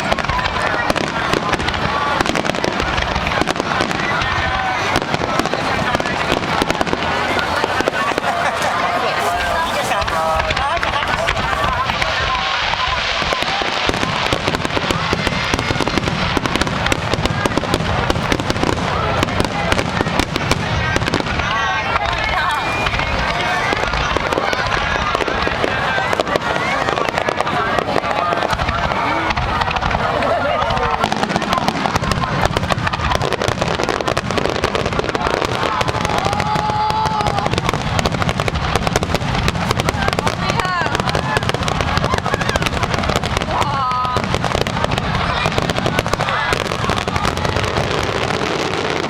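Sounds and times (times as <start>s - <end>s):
fireworks crackling and bursting: 0.0s - 49.0s.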